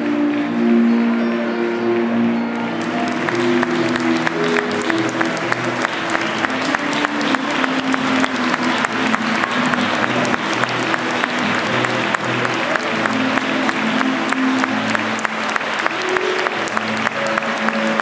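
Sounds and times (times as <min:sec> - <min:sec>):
audience applauding: 0:00.0 - 0:18.0
keyboard music held notes: 0:00.0 - 0:18.0.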